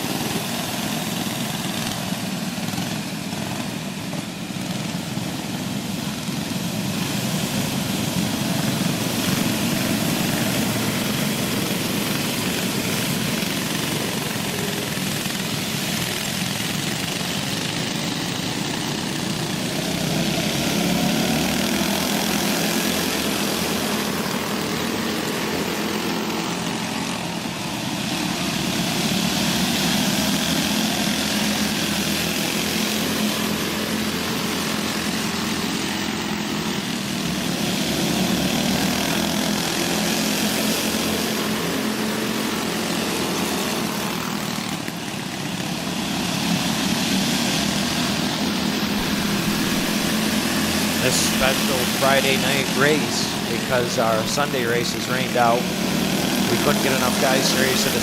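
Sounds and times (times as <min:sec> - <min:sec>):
go-kart engines buzzing: 0:00.0 - 0:58.0.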